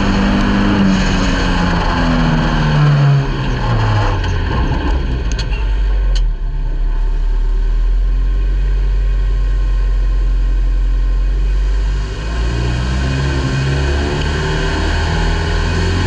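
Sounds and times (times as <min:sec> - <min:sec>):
race car engine drone: 0:00.0 - 0:16.0.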